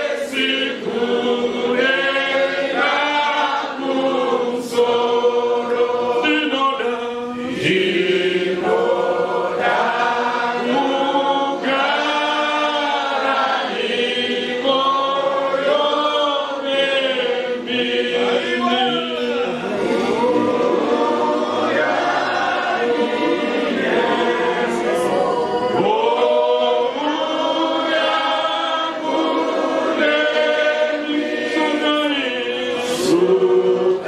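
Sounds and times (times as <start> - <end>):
congregation singing a hymn: 0.0 - 34.0.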